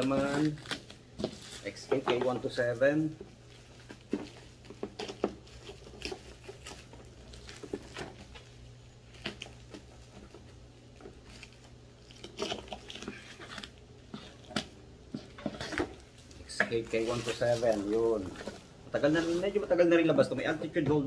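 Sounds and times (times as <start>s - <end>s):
hands handling cardboard packaging: 0.0s - 21.0s
steady low hum: 0.0s - 21.0s.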